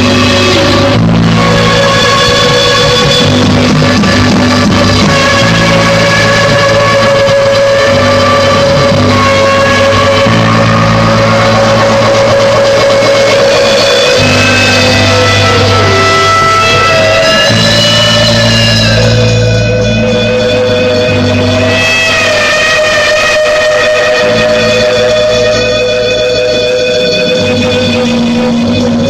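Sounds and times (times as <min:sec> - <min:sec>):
bass line: 0:00.0 - 0:29.0
drums: 0:00.0 - 0:29.0
electric guitar sustained notes: 0:00.0 - 0:29.0.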